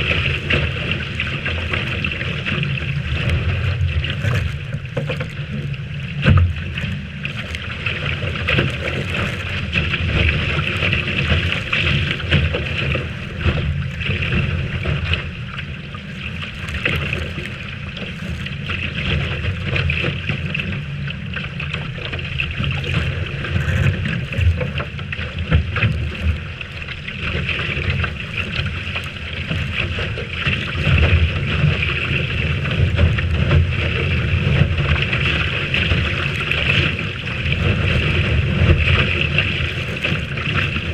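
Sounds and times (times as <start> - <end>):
water rushing along hull: 0.0 - 40.9
wind buffeting microphone: 0.0 - 40.9.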